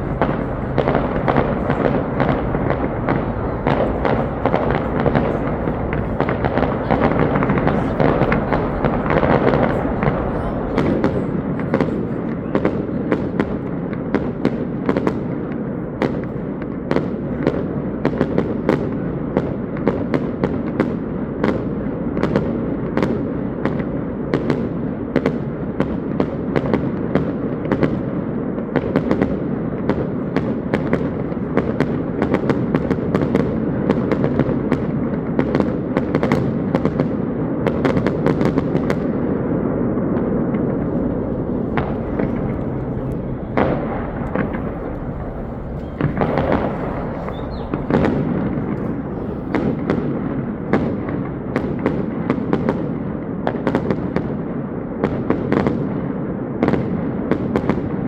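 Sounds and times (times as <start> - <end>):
fireworks popping and banging: 0.0 - 54.4.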